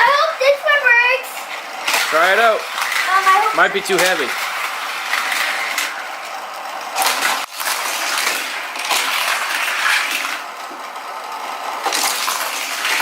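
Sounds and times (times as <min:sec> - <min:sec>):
spinning toy booster wheel whirring: 0:00.0 - 0:13.0
toy car clattering on plastic track: 0:01.2 - 0:13.0.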